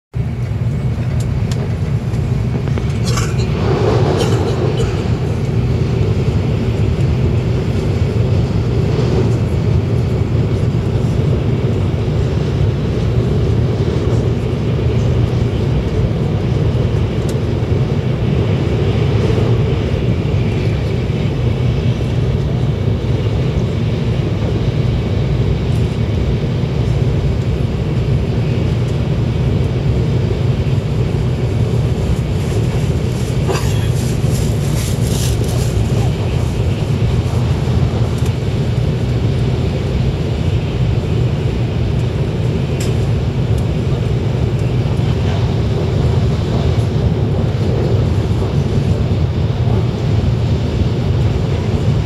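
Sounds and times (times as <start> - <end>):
train cabin rumble and rushing: 0.1 - 52.0.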